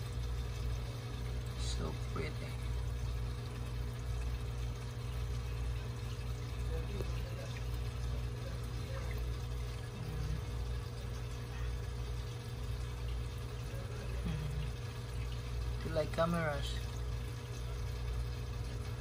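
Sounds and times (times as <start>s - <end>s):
aquarium filter bubbling: 0.0s - 19.0s
steady low hum: 0.0s - 19.0s.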